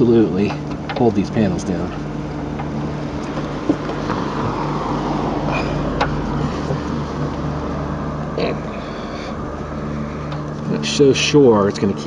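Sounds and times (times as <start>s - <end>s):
road noise rushing: 0.0s - 12.0s
vehicle engine hum: 0.0s - 12.0s.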